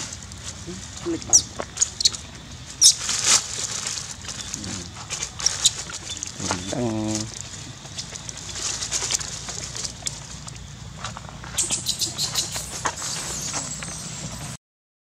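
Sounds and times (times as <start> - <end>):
dry leaves crackling underfoot: 0.0 - 14.6.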